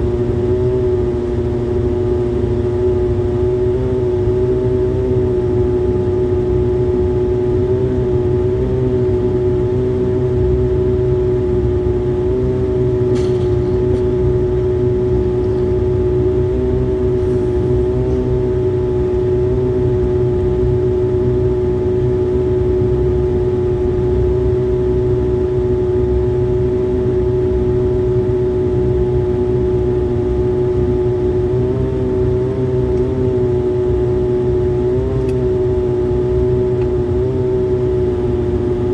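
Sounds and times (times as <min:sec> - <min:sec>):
airliner engines droning in cabin: 0:00.0 - 0:38.9.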